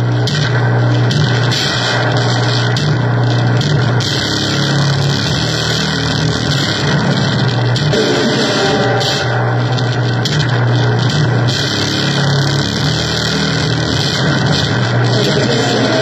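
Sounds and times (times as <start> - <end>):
harsh electronic noise music: 0.0 - 16.0.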